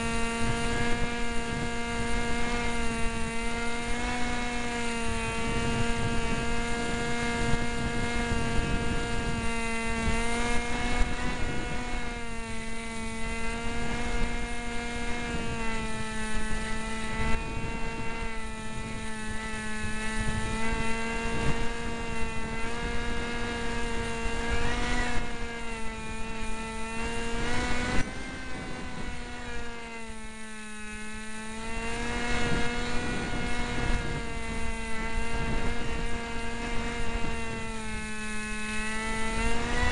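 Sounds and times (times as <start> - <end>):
electric motor and propeller whine: 0.0 - 39.9
wind buffeting microphone: 0.0 - 39.9.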